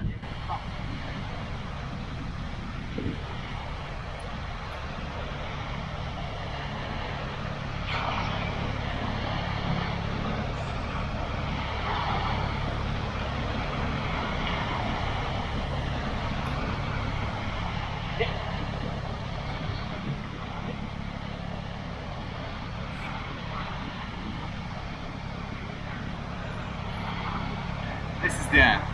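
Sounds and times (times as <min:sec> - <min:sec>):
low engine-like drone: 0:00.0 - 0:28.9
small waves breaking on shore: 0:00.0 - 0:28.9.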